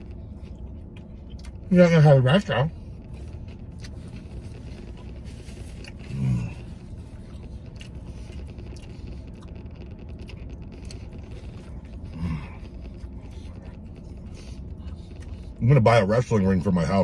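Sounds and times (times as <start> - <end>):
man chewing: 0.0 - 1.7, 2.4 - 15.6
vehicle cab rumble: 0.0 - 17.0.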